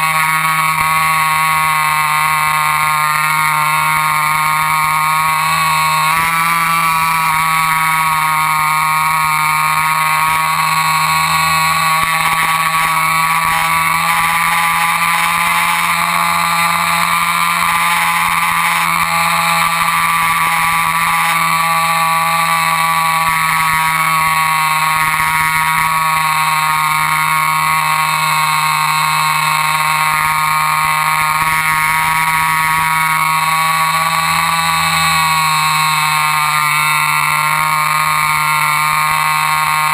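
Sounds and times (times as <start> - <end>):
model airplane motor whine: 0.0 - 39.9.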